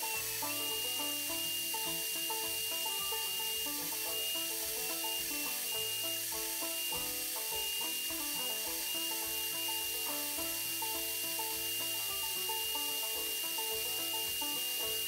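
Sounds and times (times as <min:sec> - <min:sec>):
bandsaw whine: 0:00.0 - 0:15.0.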